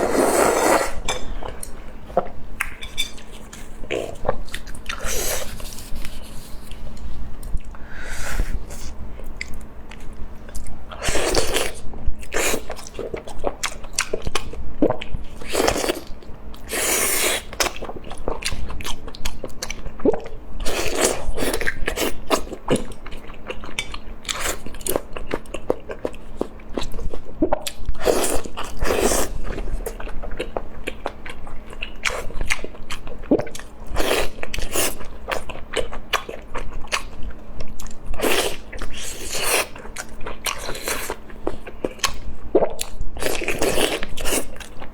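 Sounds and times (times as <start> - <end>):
person crunching and chewing food: 0.0 - 7.8, 8.6 - 44.9.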